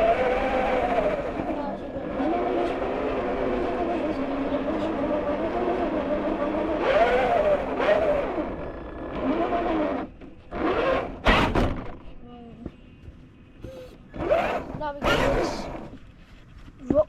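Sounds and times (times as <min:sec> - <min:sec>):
electric motor whining: 0:00.0 - 0:12.0, 0:13.6 - 0:16.0.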